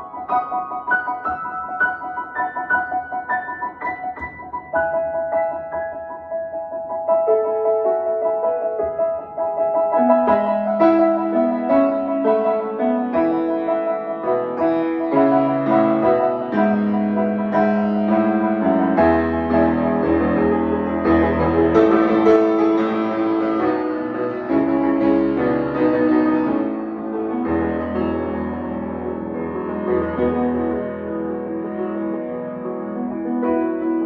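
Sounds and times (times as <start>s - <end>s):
low piano bass: 0.0s - 34.0s
piano chords and melody: 0.0s - 34.0s.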